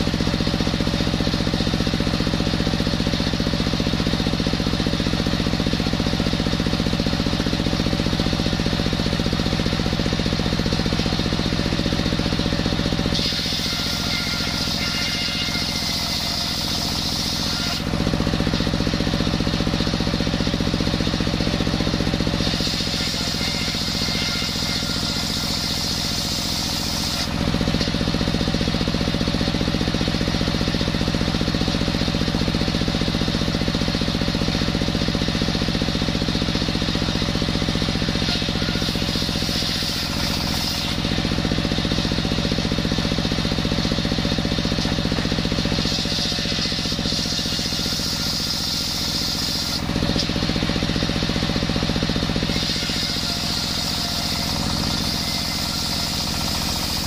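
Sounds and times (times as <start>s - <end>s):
circular saw ripping wood: 0.0s - 33.1s, 35.0s - 57.0s
stationary engine running: 0.0s - 57.0s.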